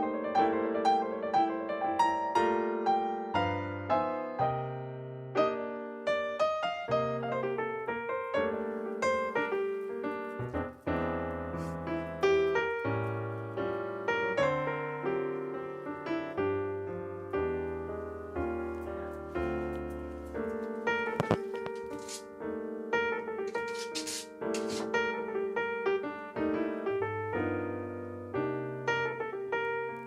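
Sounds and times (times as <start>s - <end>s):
gentle piano melody: 0.0s - 30.0s.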